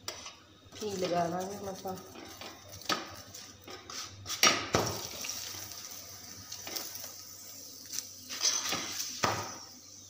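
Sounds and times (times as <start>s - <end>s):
flatbread sizzling in ghee: 0.0s - 10.0s.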